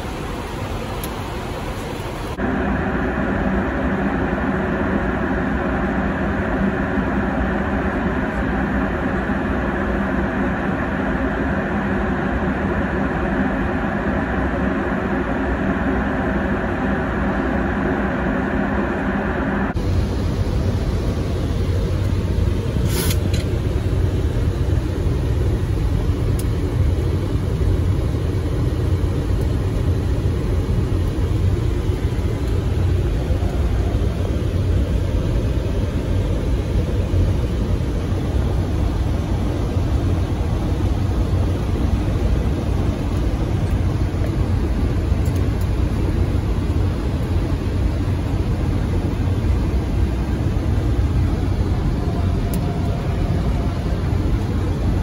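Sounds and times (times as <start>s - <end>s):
airflow and engine rumble: 0.0s - 55.0s.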